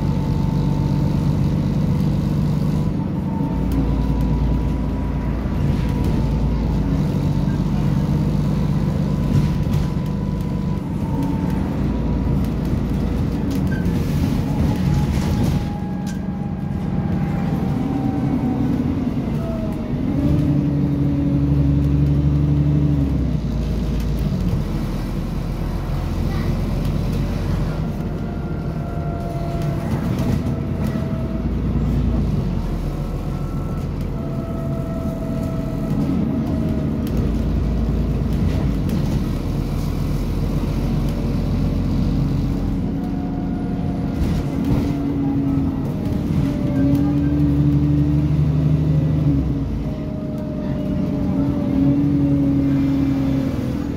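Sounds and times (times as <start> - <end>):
bus engine: 0.0 - 53.9.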